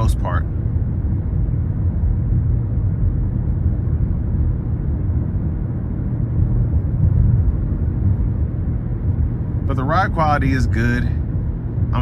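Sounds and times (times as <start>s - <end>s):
car drivetrain running: 0.0s - 12.0s
tyres rumbling on road: 0.0s - 12.0s.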